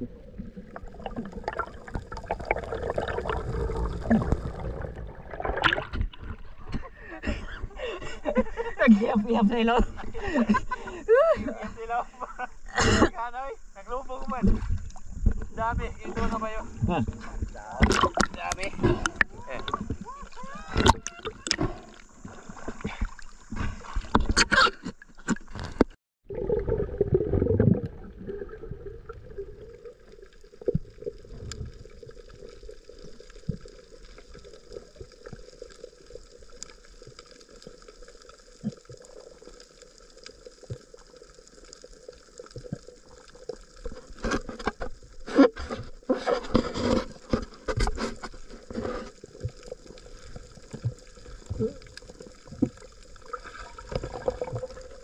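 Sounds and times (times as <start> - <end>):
water gurgling and splashing: 0.0 - 6.8, 13.6 - 55.0
faint steady hum: 0.0 - 46.1.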